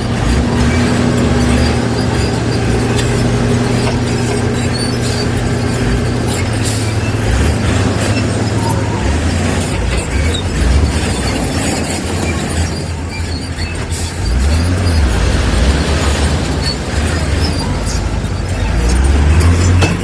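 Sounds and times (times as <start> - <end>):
heavy machinery diesel engine rumble: 0.0 - 20.0
machine working noise: 0.0 - 20.0.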